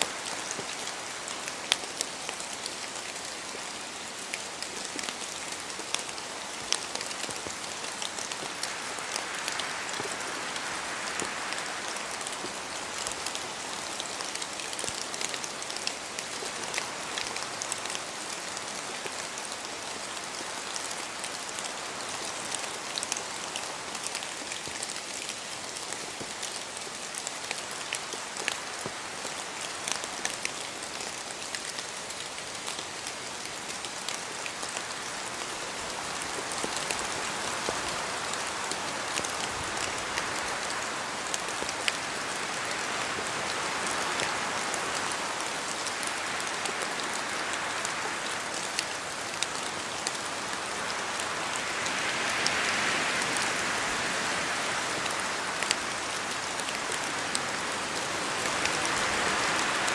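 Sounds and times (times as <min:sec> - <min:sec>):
rain falling in forest: 0:00.0 - 0:59.9.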